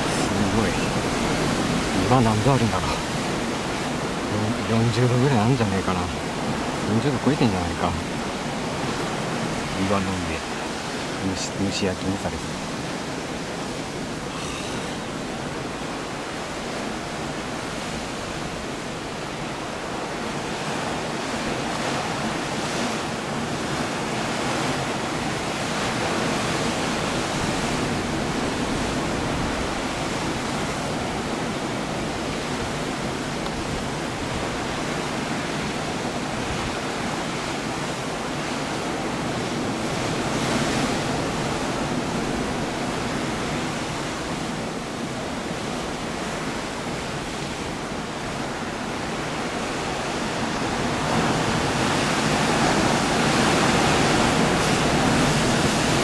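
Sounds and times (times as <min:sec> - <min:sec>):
surf breaking over rocks: 0:00.0 - 0:56.0.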